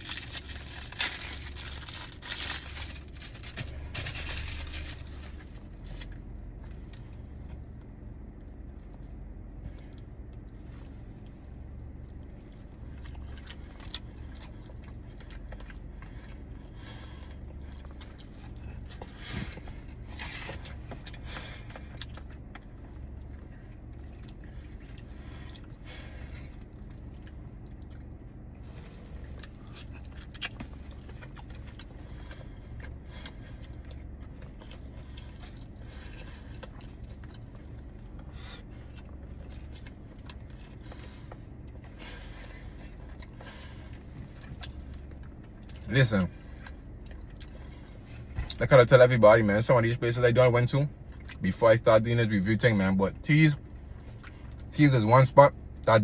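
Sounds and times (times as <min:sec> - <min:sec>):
chewing: 0:00.0 - 0:48.6
steady low hum: 0:00.0 - 0:56.0.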